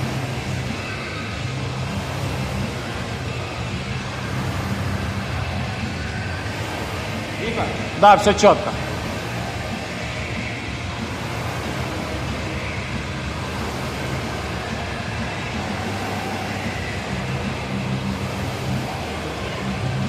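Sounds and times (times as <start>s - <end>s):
low hum: 0.0s - 20.0s
rowing machine fan whirring: 0.0s - 20.0s.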